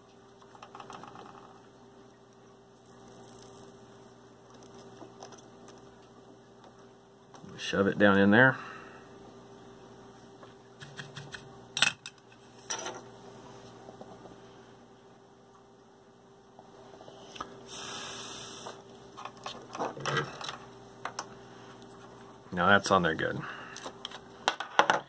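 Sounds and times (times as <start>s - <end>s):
electrical hum: 0.0s - 24.6s.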